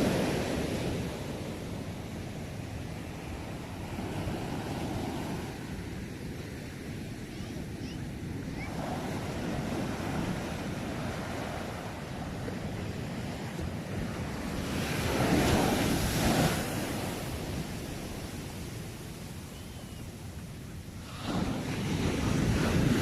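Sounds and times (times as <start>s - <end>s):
sea waves washing onto shore: 0.0s - 23.0s.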